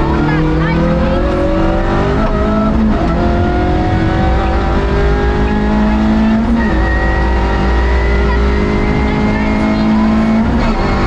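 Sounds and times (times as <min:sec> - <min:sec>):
low rumble of tyres and road: 0:00.0 - 0:11.0
rally car engine accelerating: 0:00.0 - 0:11.0.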